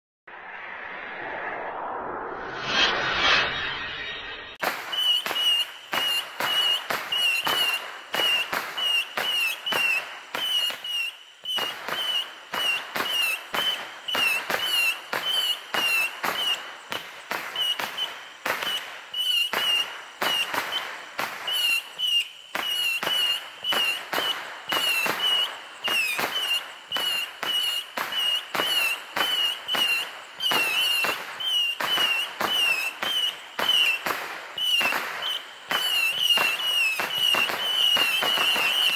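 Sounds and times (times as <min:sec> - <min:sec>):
firework missiles cracking: 0:00.3 - 0:38.9
high whistle of missiles: 0:00.3 - 0:38.9.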